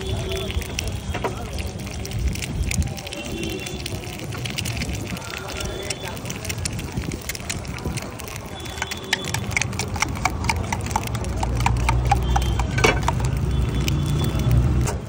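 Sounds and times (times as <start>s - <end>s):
hooves clip-clopping on hard road: 0.0s - 15.0s.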